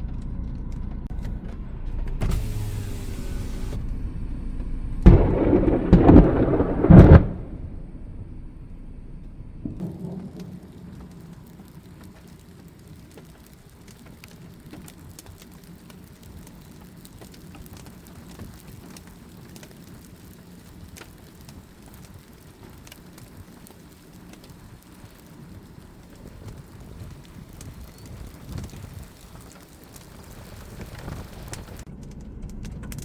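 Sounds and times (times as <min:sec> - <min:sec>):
thunder rumble: 0:00.0 - 0:33.0
steady rain: 0:01.1 - 0:32.0.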